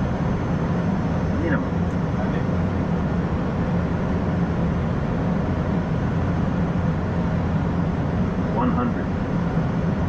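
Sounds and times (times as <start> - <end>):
cockpit low hum: 0.0 - 10.0.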